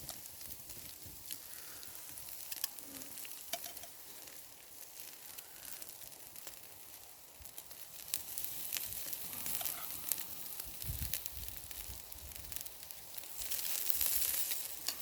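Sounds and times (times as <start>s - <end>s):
fire pops and crackles: 0.0s - 15.0s
food sizzling over campfire: 0.0s - 15.0s.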